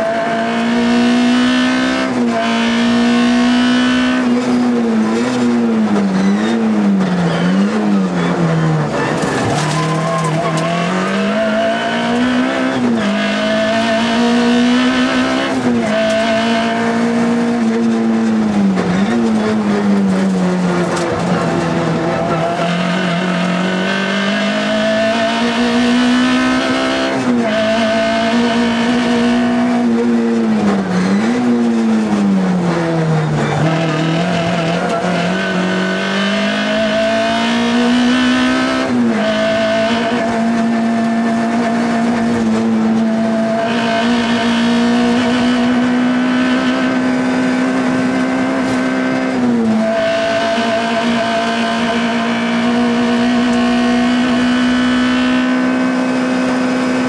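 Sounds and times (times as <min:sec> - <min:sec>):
rally car engine at high revs: 0:00.0 - 0:57.0.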